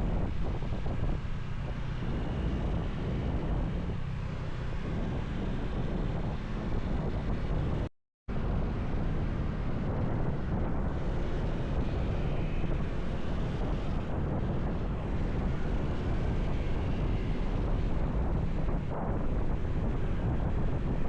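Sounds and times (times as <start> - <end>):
motorcycle rumble: 0.0 - 21.0
road noise: 0.0 - 21.0
wind rushing over microphone: 0.0 - 21.0.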